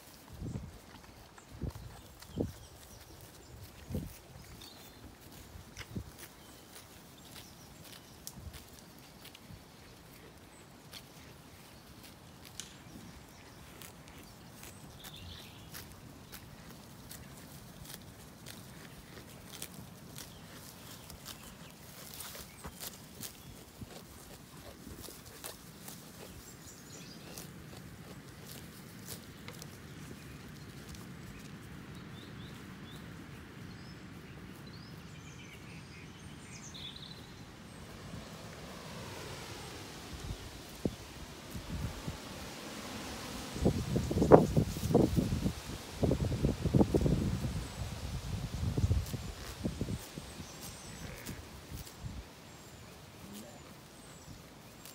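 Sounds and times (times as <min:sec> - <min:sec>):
sheep tearing grass: 0:00.0 - 0:31.9, 0:37.5 - 0:54.9
low rumble of wind: 0:00.0 - 0:54.9
small birds chirping: 0:00.0 - 0:54.9.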